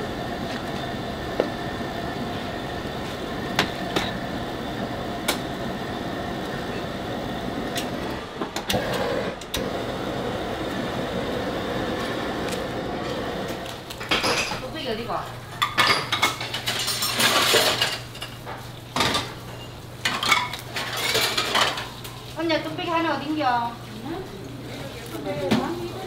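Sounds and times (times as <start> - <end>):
gas stove roaring: 0.0 - 26.0.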